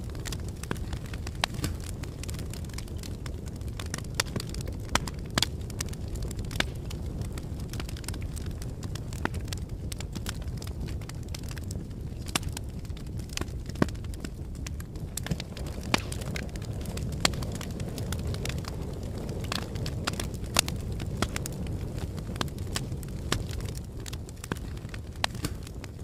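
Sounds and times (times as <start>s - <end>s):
fire crackling and popping: 0.0s - 26.0s
low fire rumble: 0.0s - 26.0s.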